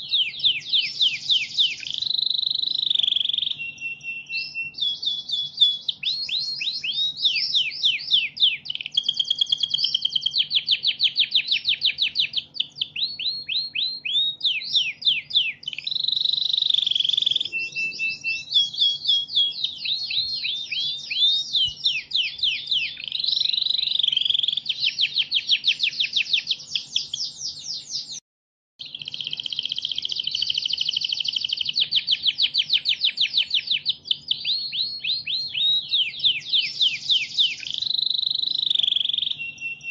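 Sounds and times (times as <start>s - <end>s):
songbird singing sharp chirps: 0.0s - 28.2s, 28.8s - 39.9s.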